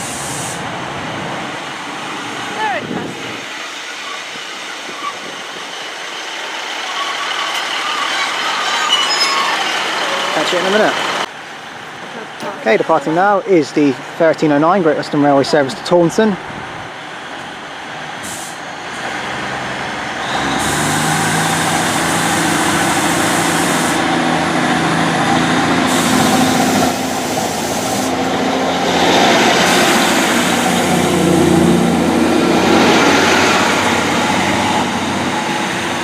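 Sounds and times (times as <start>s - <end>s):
diesel train engines under load: 0.0s - 36.0s.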